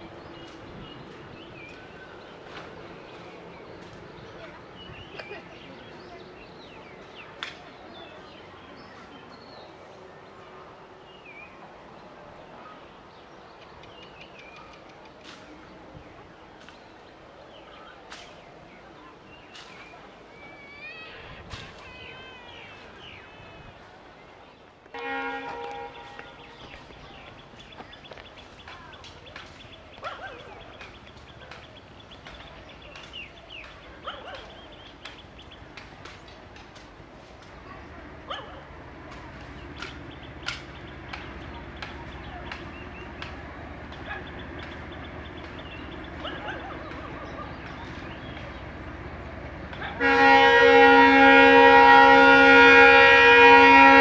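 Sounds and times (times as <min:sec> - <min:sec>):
birds chirping: 0:00.0 - 0:36.8, 0:37.4 - 0:54.0.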